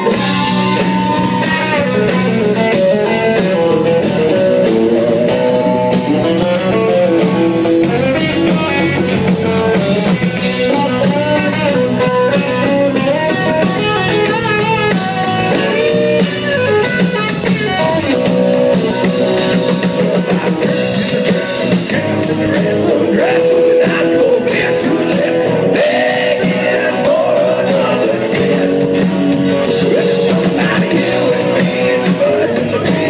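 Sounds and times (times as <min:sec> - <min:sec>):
bass guitar: 0:00.0 - 0:33.0
drum kit: 0:00.0 - 0:33.0
electric guitar lead: 0:00.0 - 0:33.0
strummed guitar: 0:00.0 - 0:33.0.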